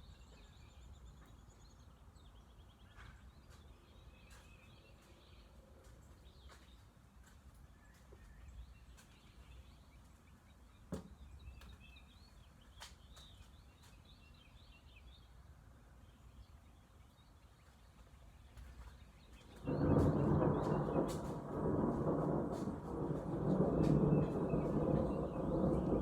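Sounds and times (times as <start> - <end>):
low outdoor background: 0.0 - 26.0.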